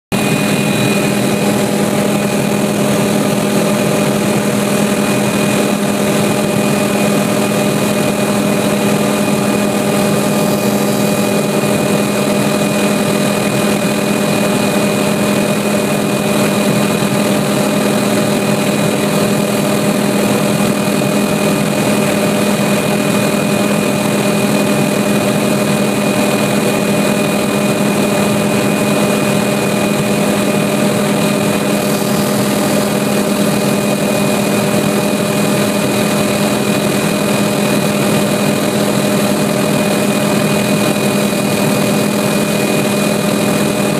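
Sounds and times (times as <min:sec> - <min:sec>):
light aircraft engine droning: 0:00.1 - 0:43.9.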